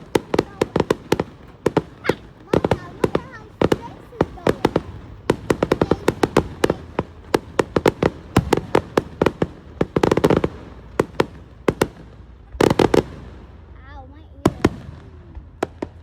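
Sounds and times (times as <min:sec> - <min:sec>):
fireworks bangs and cracks: 0:00.0 - 0:16.0
fireworks crackling: 0:00.0 - 0:16.0.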